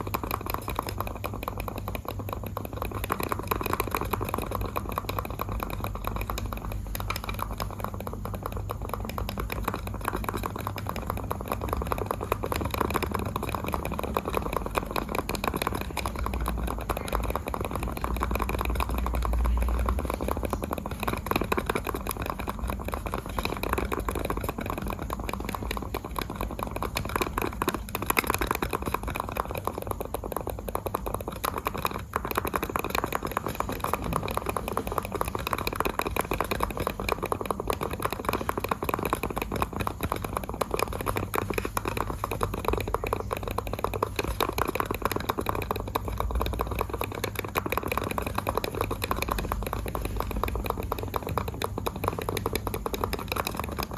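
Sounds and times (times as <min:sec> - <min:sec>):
mouse buttons clicking rapidly: 0:00.0 - 0:53.9.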